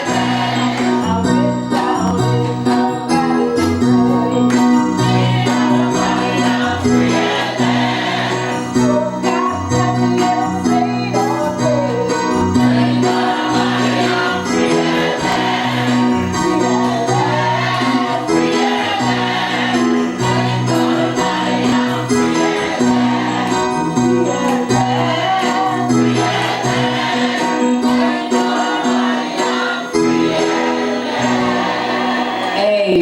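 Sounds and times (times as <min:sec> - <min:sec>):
choir singing: 0:00.0 - 0:03.3, 0:04.1 - 0:10.3, 0:11.8 - 0:33.0
keyboard chords: 0:00.0 - 0:33.0.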